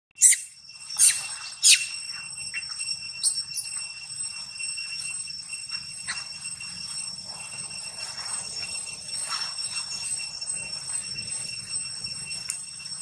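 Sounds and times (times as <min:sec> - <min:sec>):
high insect chirps: 0:00.2 - 0:13.0
insect drone: 0:00.2 - 0:13.0.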